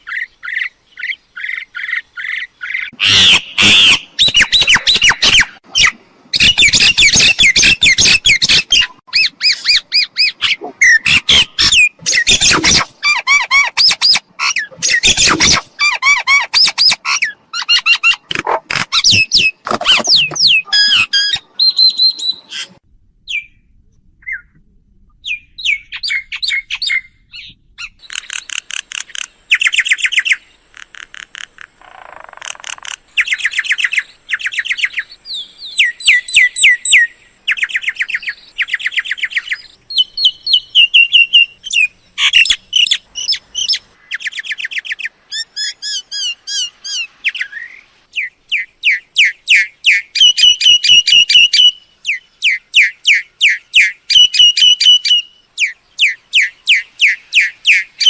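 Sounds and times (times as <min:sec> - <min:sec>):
myna bird calling: 0:00.0 - 0:24.6, 0:25.2 - 0:58.0.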